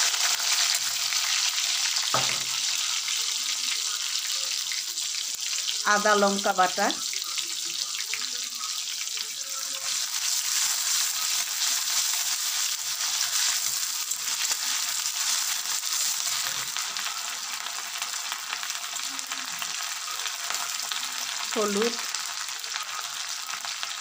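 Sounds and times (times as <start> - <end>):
hot oil sizzling: 0.0 - 24.0.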